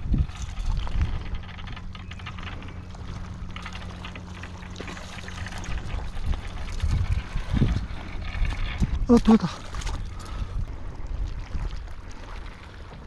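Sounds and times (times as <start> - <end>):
low gusty rumble: 0.0 - 13.0
seawater lapping against concrete: 0.0 - 13.0.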